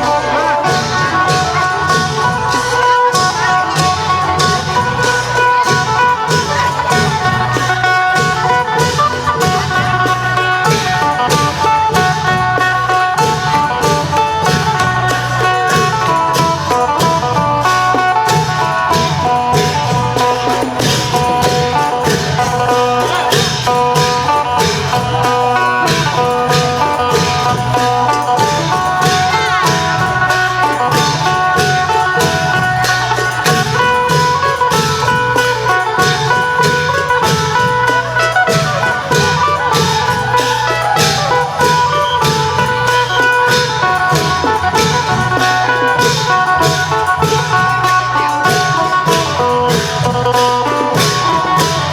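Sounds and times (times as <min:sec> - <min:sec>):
long drums: 0:00.0 - 0:51.9
plucked lute melody: 0:00.0 - 0:51.9
sharp percussion strikes: 0:00.0 - 0:51.9.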